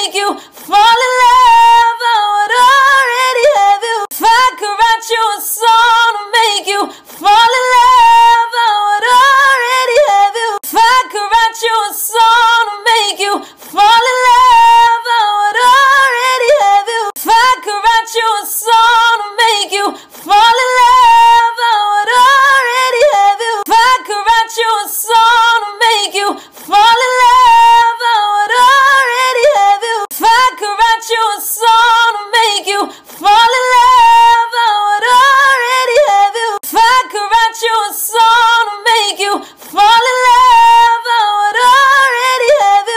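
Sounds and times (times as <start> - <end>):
woman singing a cappella: 0.0 - 42.9.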